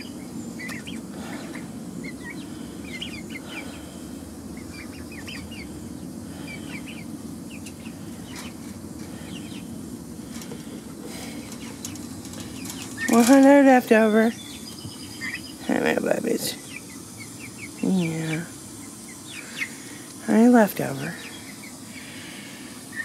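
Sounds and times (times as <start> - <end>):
chicks peeping: 0.0 - 23.0
steady low hum: 0.0 - 23.0.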